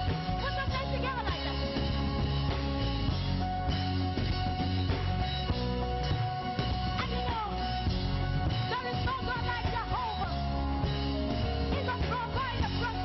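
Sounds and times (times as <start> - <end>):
live worship band music: 0.0 - 13.0.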